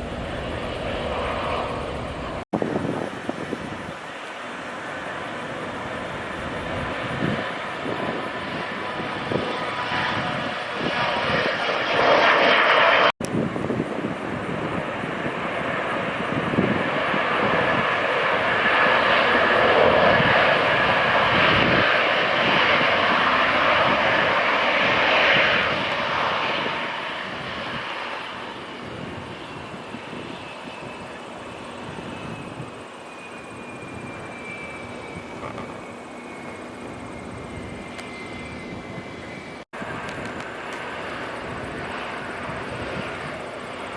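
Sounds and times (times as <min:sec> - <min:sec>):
jet aircraft engines passing: 0:00.0 - 0:43.9.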